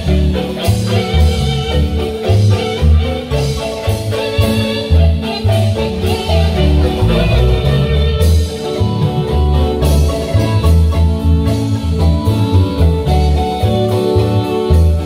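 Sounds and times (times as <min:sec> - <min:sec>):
marimba band playing dance music: 0:00.0 - 0:15.0.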